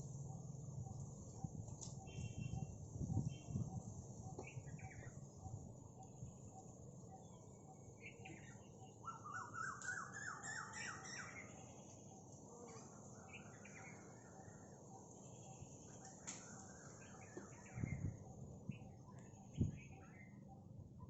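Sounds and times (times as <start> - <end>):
birds calling: 0.3 - 21.0.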